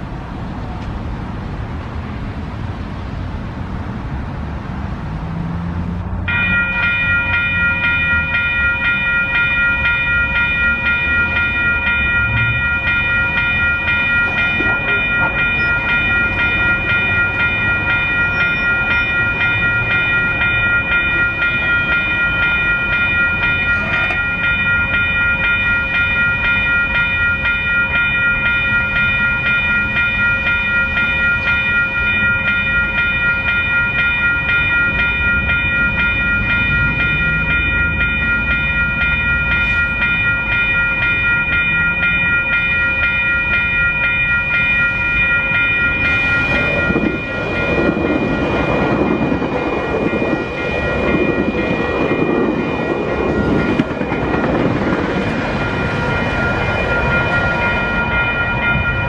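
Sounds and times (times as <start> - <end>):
train rumbling: 0.0 - 59.0
crossing warning bell ringing: 4.9 - 59.0.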